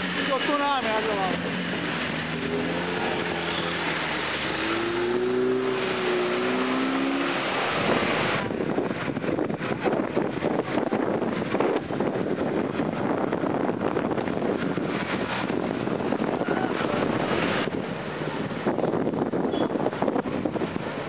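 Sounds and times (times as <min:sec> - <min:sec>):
water washing around vehicle: 0:00.0 - 0:21.0
wind buffeting microphone: 0:00.0 - 0:21.0.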